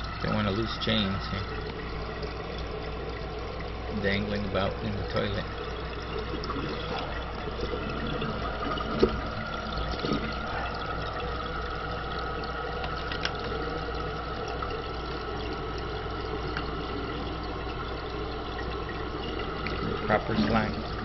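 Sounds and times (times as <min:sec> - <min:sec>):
water filling toilet tank: 0:00.0 - 0:21.0.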